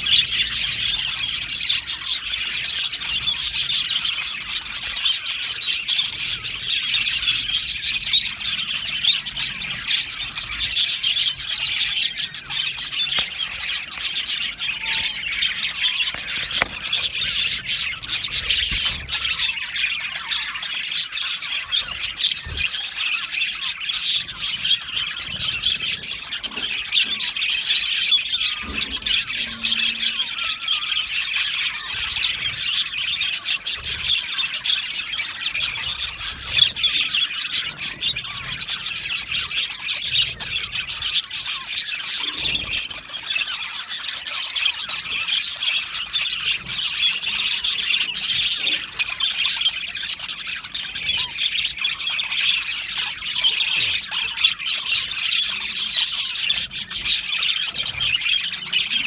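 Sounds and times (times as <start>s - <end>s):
flock of budgerigars chattering: 0.0s - 59.0s.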